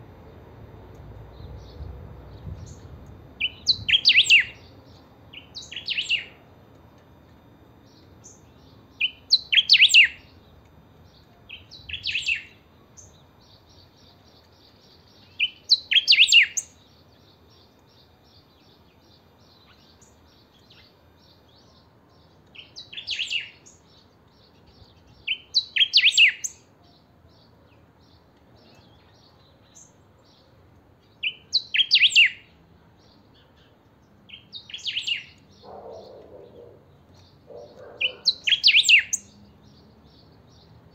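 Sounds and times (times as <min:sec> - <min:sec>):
bird singing high phrases: 0:01.4 - 0:06.4, 0:07.8 - 0:40.8.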